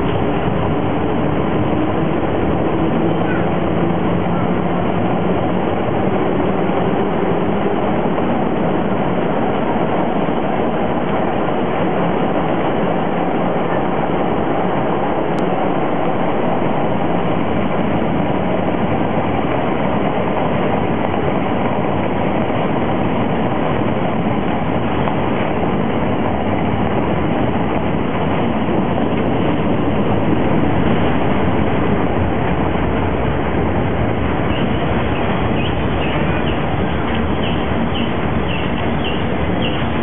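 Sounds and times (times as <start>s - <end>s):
subway wheels rumbling on rail: 0.0s - 40.0s.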